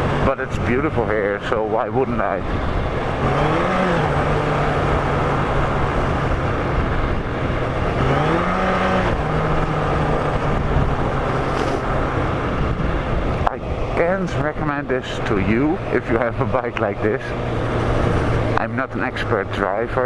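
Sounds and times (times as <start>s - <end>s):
motorcycle engine revving: 0.0s - 20.0s
wind and road noise: 0.0s - 20.0s.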